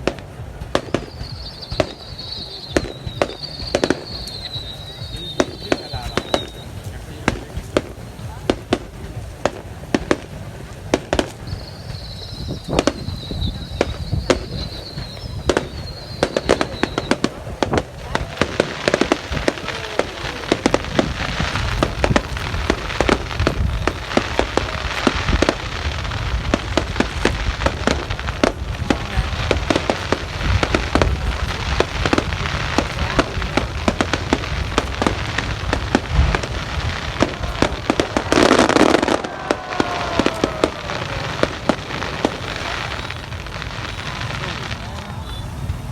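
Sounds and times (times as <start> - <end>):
falling fireworks whistles: 0.0 - 45.9
fireworks bangs and crackling: 0.0 - 45.9
loud rushing burst: 0.0 - 45.9.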